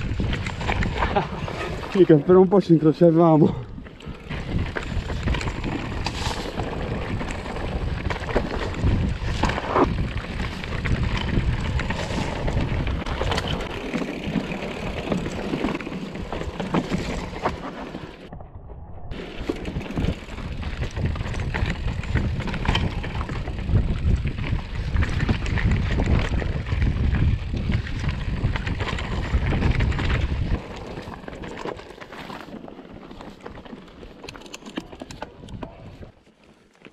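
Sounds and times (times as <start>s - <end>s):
wind rumbling on microphone: 0.0s - 2.5s, 3.5s - 31.8s
bike rattling: 0.0s - 36.9s.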